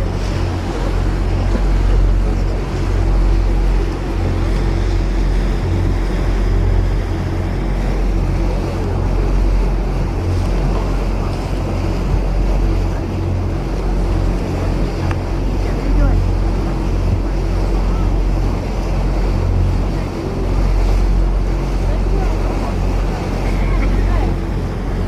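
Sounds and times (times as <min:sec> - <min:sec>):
boat engine droning: 0:00.0 - 0:25.0
rushing water: 0:00.0 - 0:25.0.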